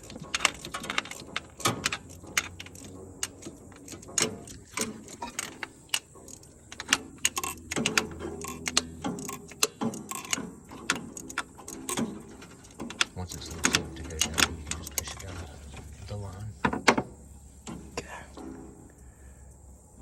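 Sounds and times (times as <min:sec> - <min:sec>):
tools and metal parts clinking: 0:00.0 - 0:17.0.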